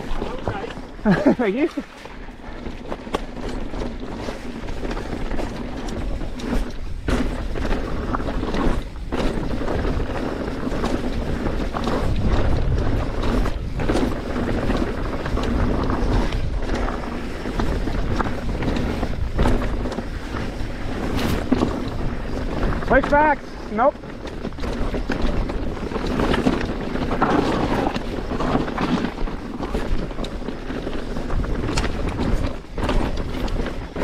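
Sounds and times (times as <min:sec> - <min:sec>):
bike knocking and rattling over rocks: 0:00.0 - 0:34.0
wind rushing over microphone: 0:00.0 - 0:34.0.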